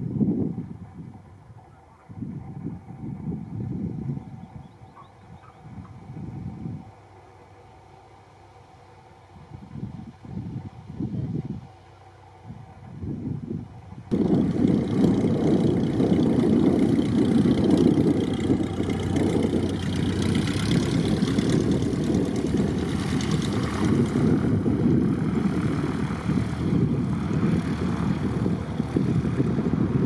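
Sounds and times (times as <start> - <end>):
light plane engine and propeller: 0.0 - 30.0.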